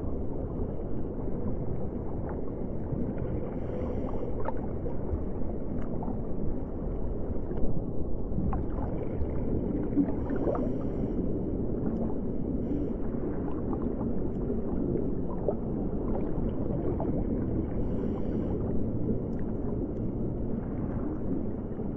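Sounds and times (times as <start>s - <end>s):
muffled underwater rumble: 0.0s - 21.9s
faint clicks and crackles: 3.1s - 21.9s.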